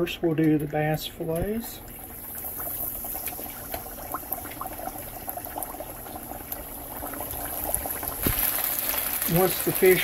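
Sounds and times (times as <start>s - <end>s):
oil popping and crackling: 0.4s - 10.0s
fish sizzling and bubbling in oil: 1.2s - 10.0s.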